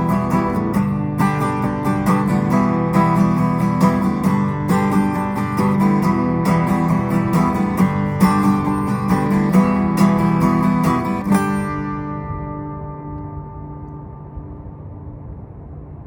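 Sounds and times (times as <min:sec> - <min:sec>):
strummed acoustic guitar: 0:00.0 - 0:14.8.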